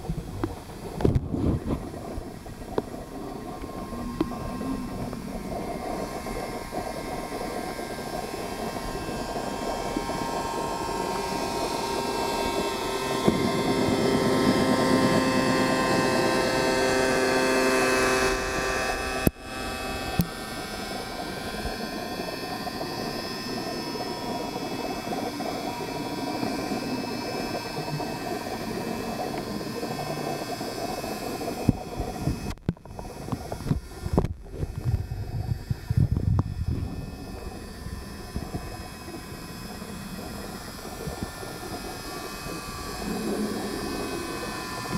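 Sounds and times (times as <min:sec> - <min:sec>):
underwater motor whine: 0:00.0 - 0:44.9.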